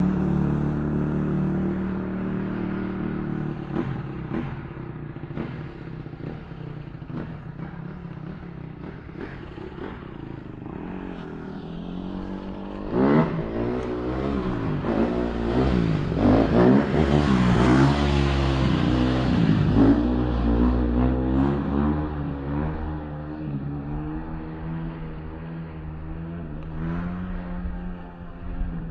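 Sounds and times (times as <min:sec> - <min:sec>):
dirt bike engine idling and revving: 0:00.0 - 0:28.9.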